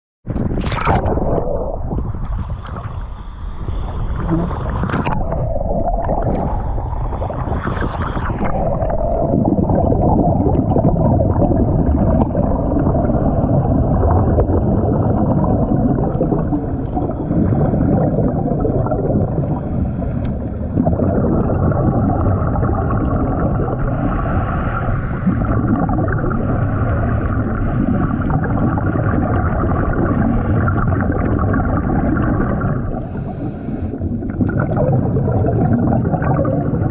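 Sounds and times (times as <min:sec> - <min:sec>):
muffled underwater rushing and gurgling: 0:00.3 - 0:36.9.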